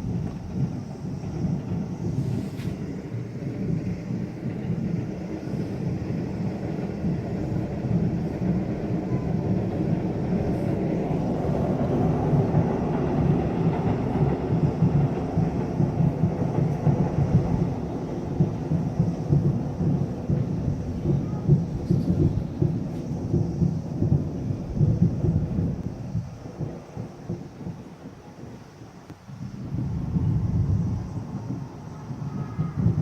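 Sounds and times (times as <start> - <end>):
distant fireworks booming: 0.0 - 33.0.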